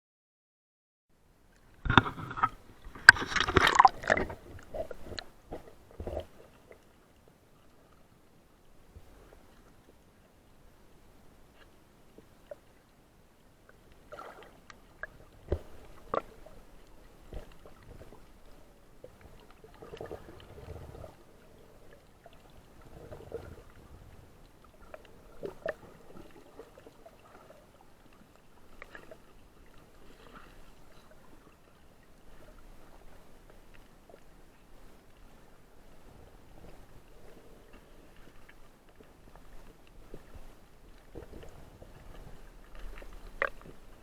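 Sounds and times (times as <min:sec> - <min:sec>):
muffled water sloshing and gurgling: 0:01.4 - 0:44.0.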